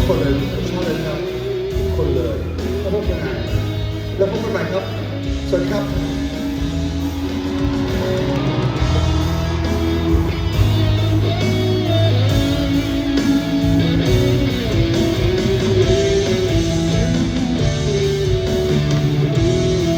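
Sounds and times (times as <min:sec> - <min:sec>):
instrumental band music with guitar: 0:00.0 - 0:19.9.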